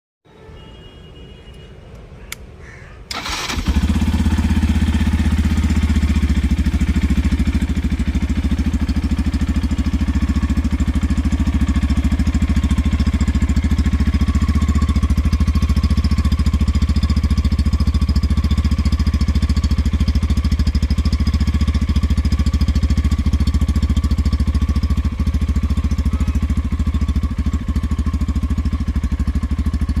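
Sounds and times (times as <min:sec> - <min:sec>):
motorcycle engine idling: 0:03.1 - 0:30.0.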